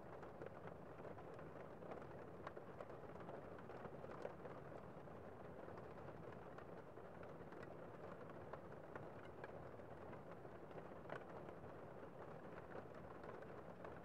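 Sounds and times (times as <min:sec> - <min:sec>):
rain on a window pane: 0:00.0 - 0:14.0.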